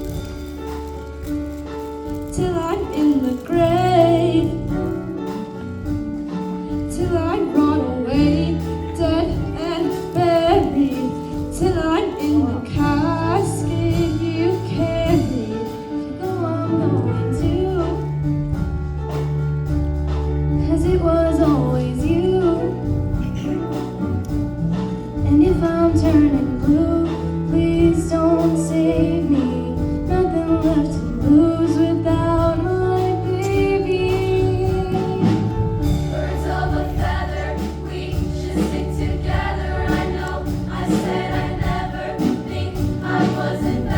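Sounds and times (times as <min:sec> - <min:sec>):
instrumental backing with bass: 0:00.0 - 0:43.9.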